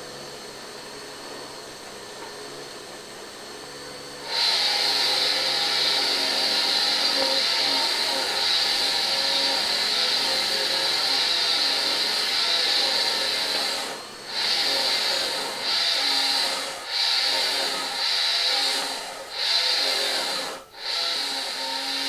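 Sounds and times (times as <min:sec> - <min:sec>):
kitchen blender whining: 0:00.0 - 0:22.0.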